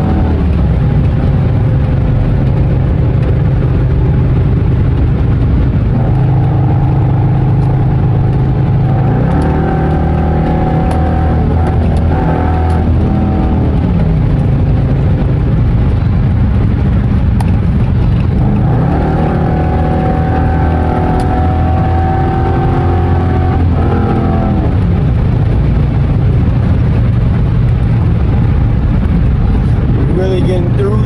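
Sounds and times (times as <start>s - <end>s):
loud car engine accelerating: 0.0s - 31.0s.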